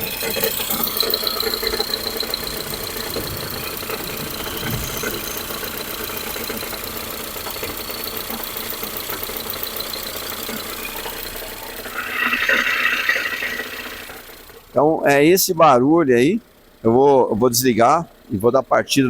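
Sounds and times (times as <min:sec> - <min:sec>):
engine idling with knocking rattle: 0:00.0 - 0:19.0.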